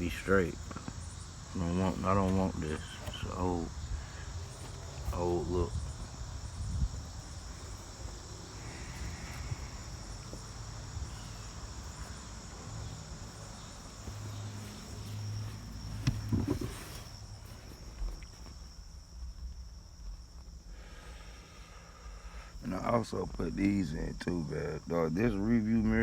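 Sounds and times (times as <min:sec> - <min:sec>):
handling rumble: 0:00.0 - 0:21.4
insects chirping: 0:00.0 - 0:26.0.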